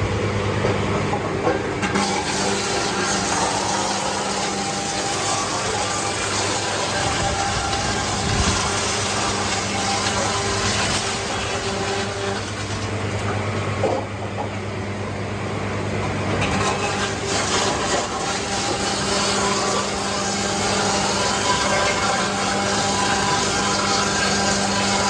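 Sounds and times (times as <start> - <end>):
motor hum: 0.0 - 25.0.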